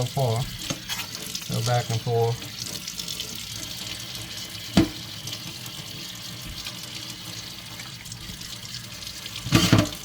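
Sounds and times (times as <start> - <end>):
water running into sink: 0.0 - 10.0.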